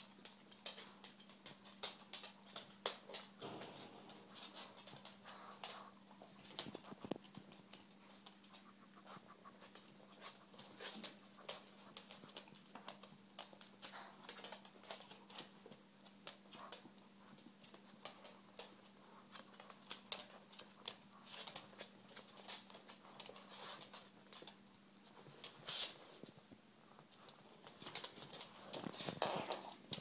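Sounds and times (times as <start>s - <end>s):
faint steady hum: 0.0s - 30.0s
dog claws on wooden floor: 0.2s - 8.7s, 9.4s - 26.4s, 27.1s - 30.0s.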